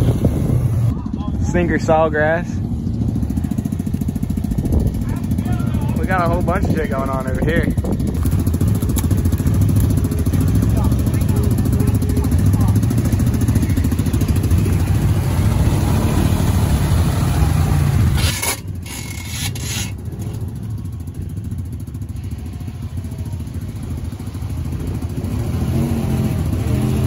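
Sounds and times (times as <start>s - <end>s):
atv engine running hard: 0.0s - 27.0s
vehicle engine idling: 0.0s - 27.0s.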